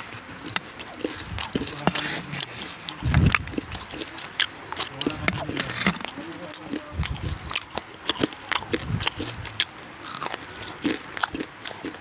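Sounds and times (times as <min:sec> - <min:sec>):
chewing and mouth smacking: 0:00.0 - 0:12.0
crunching: 0:00.0 - 0:12.0.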